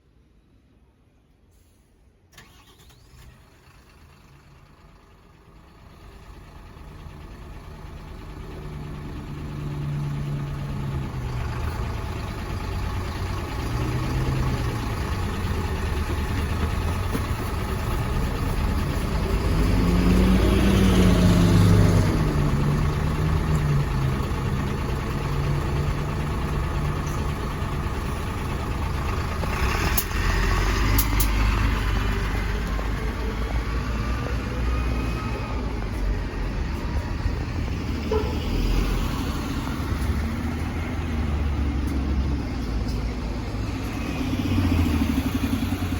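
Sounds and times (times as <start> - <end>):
bus diesel engine running: 1.4 - 45.9.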